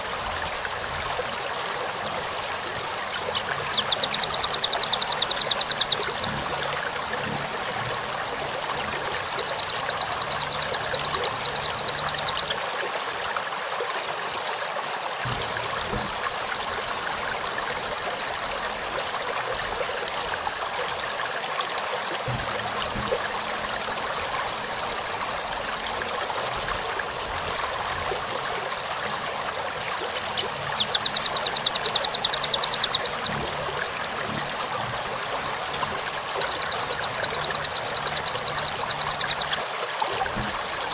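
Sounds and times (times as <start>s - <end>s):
bird song with fast high trills: 0.0s - 12.6s, 15.3s - 21.6s, 22.3s - 40.9s.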